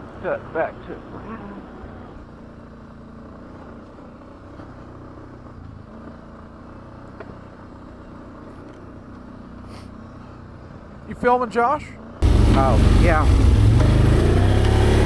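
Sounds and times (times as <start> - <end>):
atv engine running: 0.0 - 11.3, 12.0 - 15.0.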